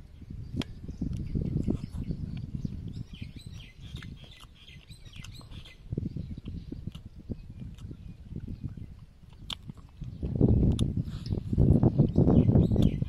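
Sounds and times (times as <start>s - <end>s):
small birds chirping: 0.0s - 13.0s
chewing and smacking: 0.6s - 13.0s.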